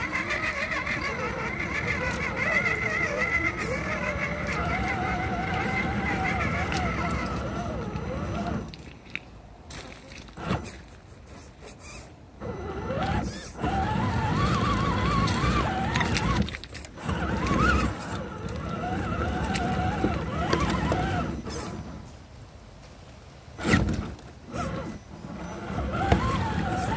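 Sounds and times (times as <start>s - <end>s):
electric motor and gears whining: 0.0s - 9.0s, 10.1s - 22.2s, 23.5s - 26.9s.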